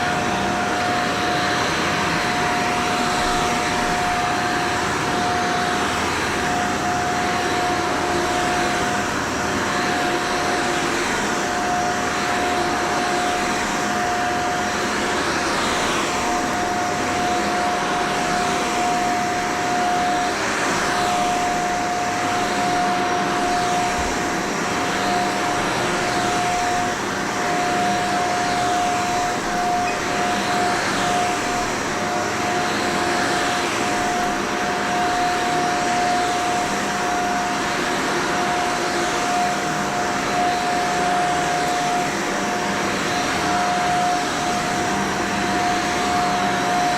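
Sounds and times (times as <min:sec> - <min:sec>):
vacuum cleaner motor whine: 0:00.0 - 0:46.9.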